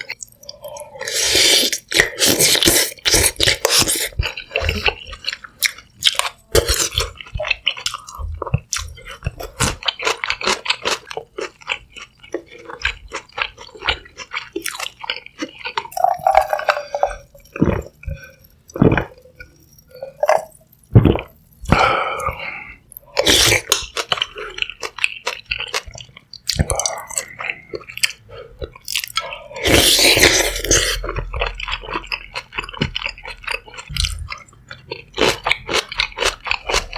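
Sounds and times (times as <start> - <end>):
wet chewing: 0.0 - 36.9.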